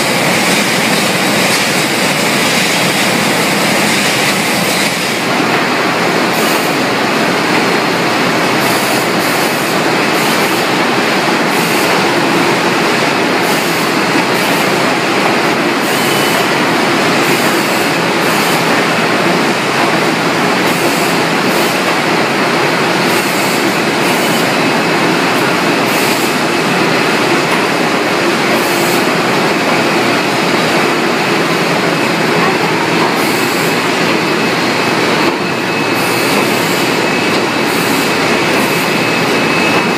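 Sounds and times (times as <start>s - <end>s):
conveyor machinery din: 0.0s - 39.9s.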